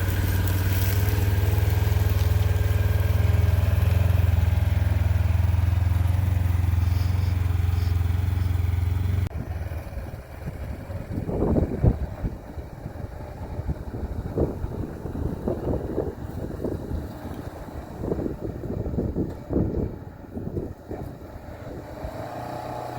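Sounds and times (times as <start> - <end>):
vehicle engine humming: 0.0 - 22.9.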